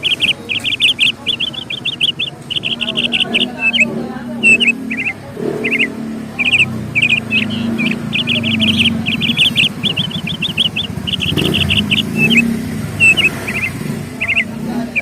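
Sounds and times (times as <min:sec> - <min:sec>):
low engine rumble: 0:00.0 - 0:15.0
small birds chirping: 0:00.0 - 0:15.0.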